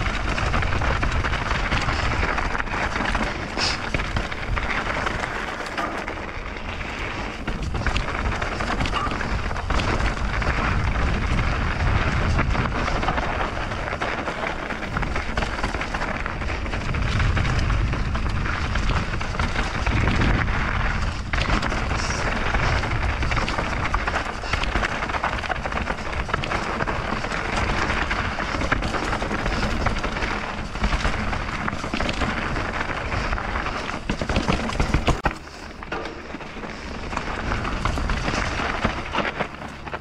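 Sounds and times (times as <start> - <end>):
wind rushing over microphone: 0.0 - 35.4
bike clicking and rattling: 0.0 - 40.0
tyres rolling on loose dirt: 0.0 - 40.0.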